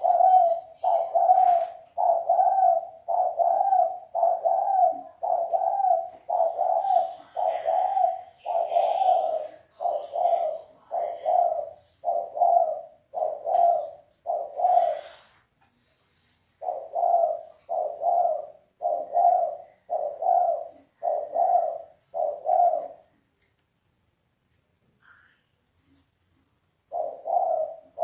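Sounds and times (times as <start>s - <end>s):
dove cooing: 0.0s - 15.4s, 16.6s - 23.1s, 26.9s - 28.0s.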